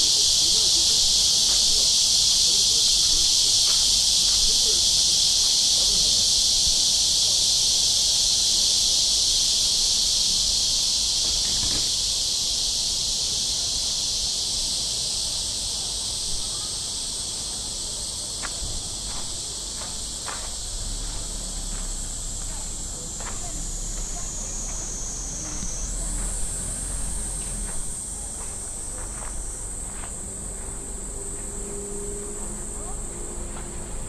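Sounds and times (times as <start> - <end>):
cicadas chorus: 0.0 - 34.0.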